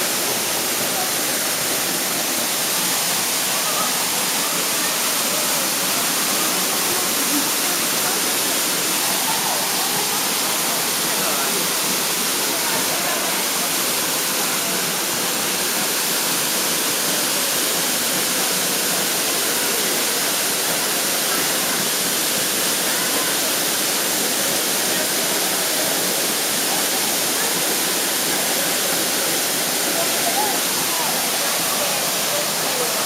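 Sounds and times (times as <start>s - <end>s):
waterfall rushing water: 0.0s - 33.0s.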